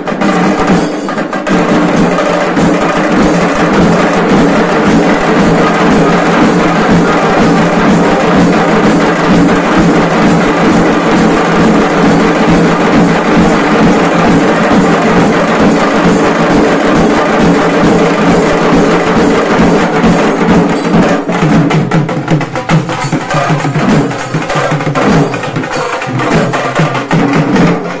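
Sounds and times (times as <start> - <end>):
drum band playing loudly: 0.0 - 28.0.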